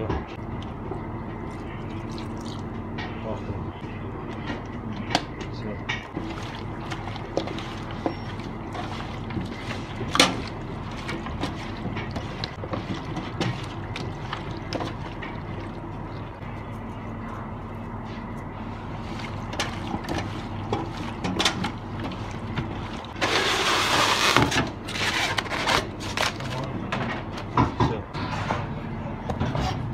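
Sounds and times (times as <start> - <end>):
steady hum: 0.0 - 27.2.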